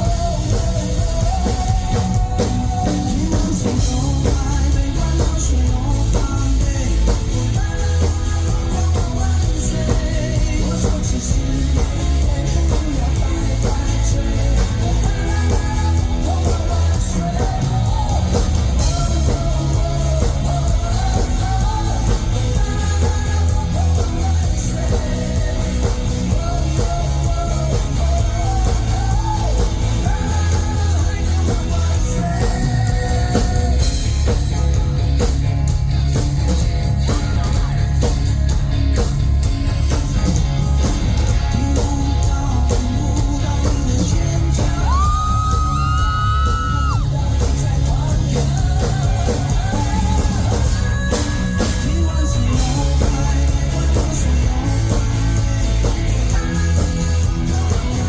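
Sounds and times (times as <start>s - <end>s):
live rock band playing: 0.0s - 58.0s
man singing lead vocals: 0.0s - 58.0s.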